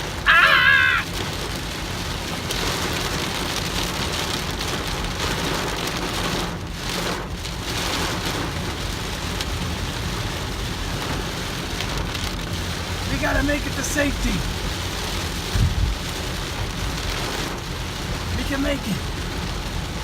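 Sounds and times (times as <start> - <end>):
car rumbling on road: 0.0 - 20.0
heavy rain on car: 0.0 - 20.0.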